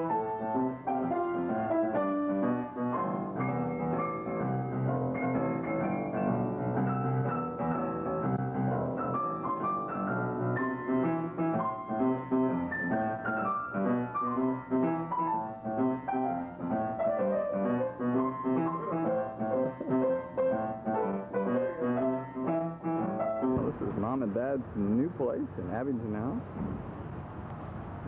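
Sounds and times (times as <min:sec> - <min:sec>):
piano music: 0:00.0 - 0:26.4.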